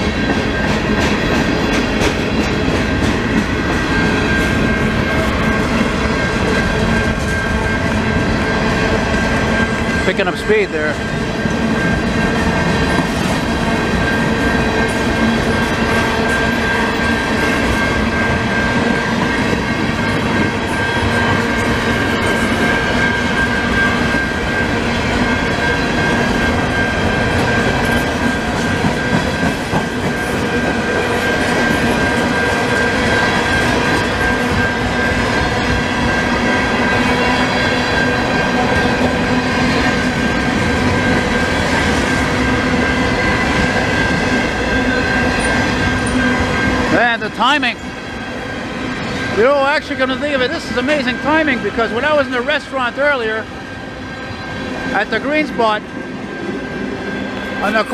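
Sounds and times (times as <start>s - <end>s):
freight train rolling past: 0.0s - 57.9s.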